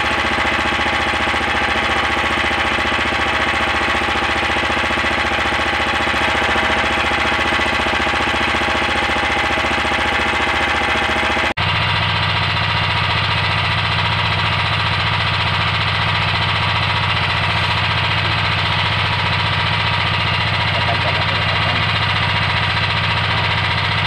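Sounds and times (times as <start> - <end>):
small engine chugging: 0.0 - 24.0.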